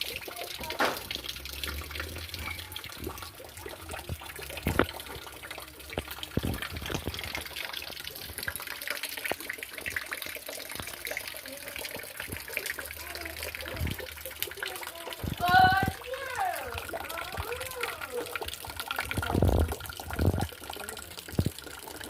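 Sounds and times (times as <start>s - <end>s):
heavy rain pouring: 0.0s - 8.9s, 10.8s - 22.0s.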